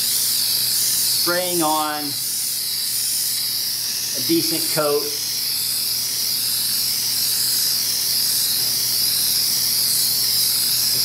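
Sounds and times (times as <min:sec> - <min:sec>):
aerosol can spraying: 0:00.0 - 0:11.0.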